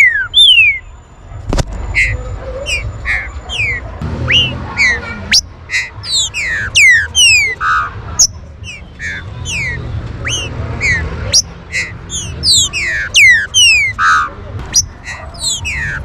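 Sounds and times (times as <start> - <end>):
bird whistling sharp notes: 0.0 - 0.9, 2.0 - 16.0.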